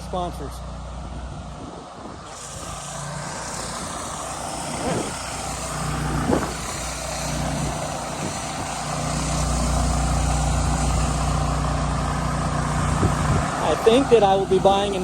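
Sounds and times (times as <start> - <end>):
pressure washer engine running: 0.0 - 15.0
high-pressure water spray hiss: 2.2 - 15.0.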